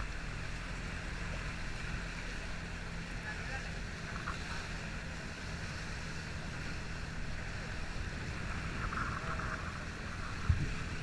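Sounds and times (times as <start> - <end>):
boat engine droning: 0.0 - 11.0
wind against microphone: 0.0 - 11.0.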